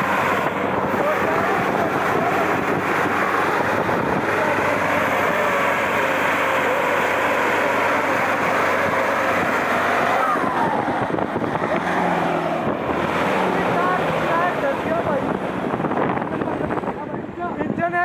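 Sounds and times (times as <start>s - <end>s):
dense running noise: 0.0s - 17.6s
vehicle engine running: 0.0s - 17.6s.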